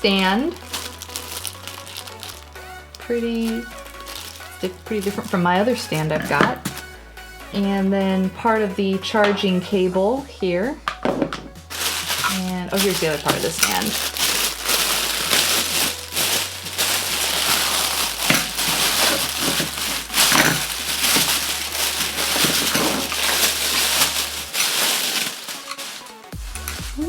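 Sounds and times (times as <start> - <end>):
plastic packaging rustling: 0.0 - 7.0, 10.9 - 26.8.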